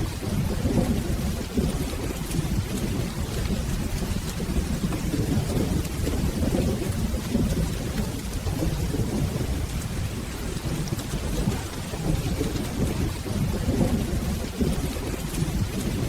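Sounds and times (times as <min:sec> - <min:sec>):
rolling thunder rumble: 0:00.0 - 0:16.0
steady rain: 0:00.0 - 0:16.0.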